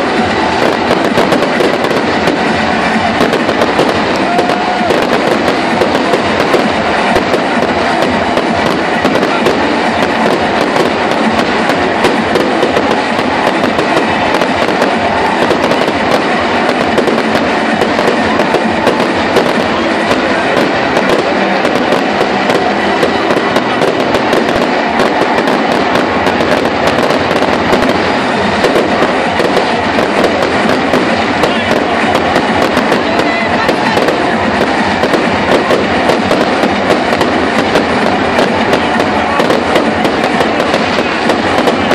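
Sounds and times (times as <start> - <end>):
fireworks crackling: 0.0 - 41.9.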